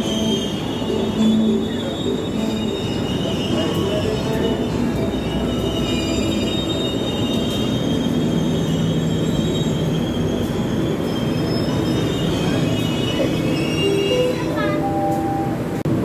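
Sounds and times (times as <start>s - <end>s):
trains rumbling and humming: 0.0s - 16.0s.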